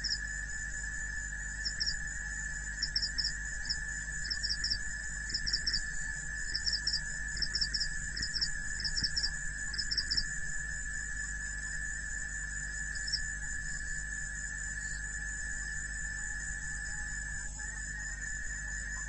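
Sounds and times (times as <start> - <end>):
high-pitched insect drone: 0.0 - 19.0
insects chirping: 0.0 - 19.0.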